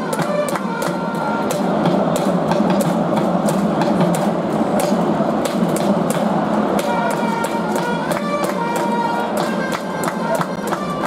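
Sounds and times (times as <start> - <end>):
crowd noise: 0.0 - 11.0
percussive drum beat: 0.0 - 11.0.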